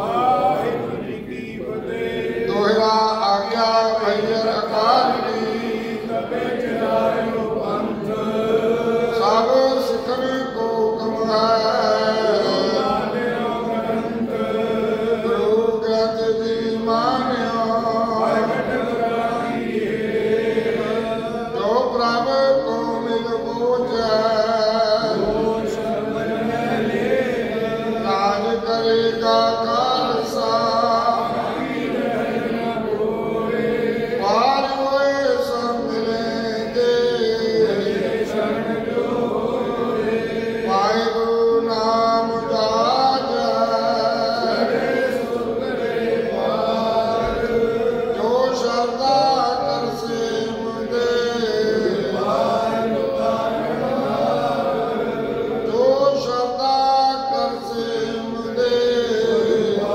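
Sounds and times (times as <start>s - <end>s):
congregation chanting: 0.0s - 59.9s.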